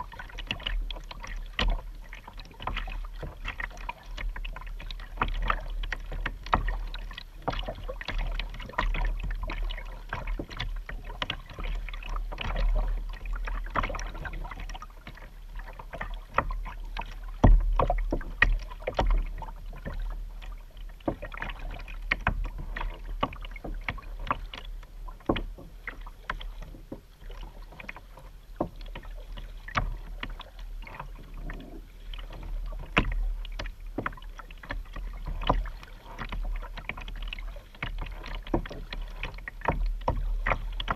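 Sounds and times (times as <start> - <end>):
kayak paddle splashing: 0.0 - 40.9
water dripping off paddle: 0.0 - 40.9
water lapping against plastic hull: 0.0 - 40.9.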